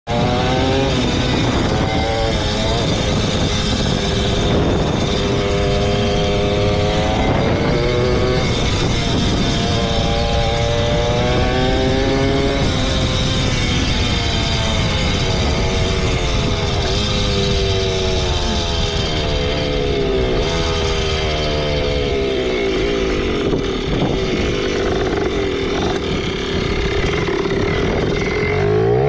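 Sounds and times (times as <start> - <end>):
dirt bike engine revving: 0.1 - 29.0.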